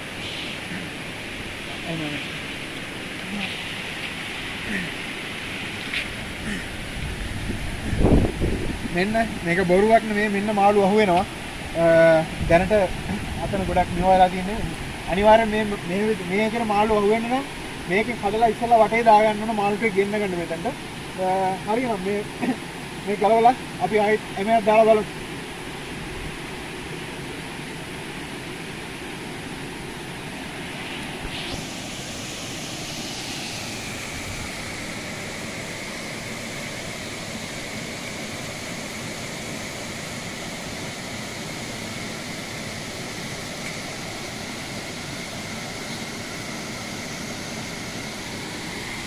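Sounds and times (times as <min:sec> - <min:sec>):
steady high whine: 0:00.0 - 0:49.0.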